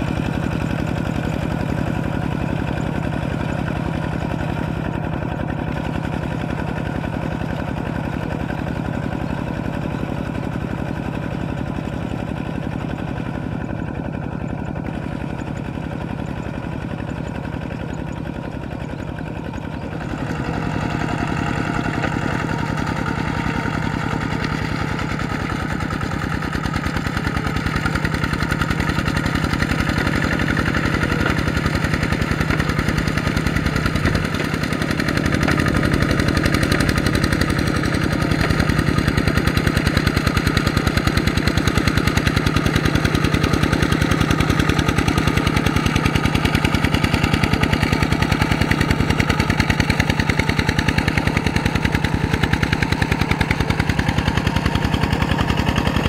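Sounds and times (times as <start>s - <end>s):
walking tractor diesel engine running: 0.0s - 56.0s.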